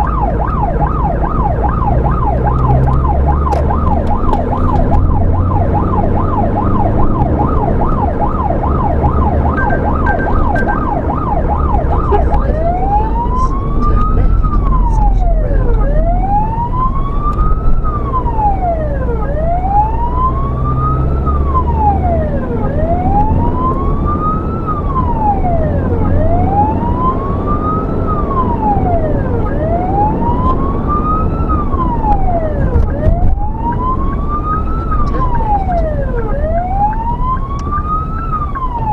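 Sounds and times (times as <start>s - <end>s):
electronic siren yelp and wail: 0.0s - 38.9s
vehicle engine and road noise: 0.0s - 38.9s.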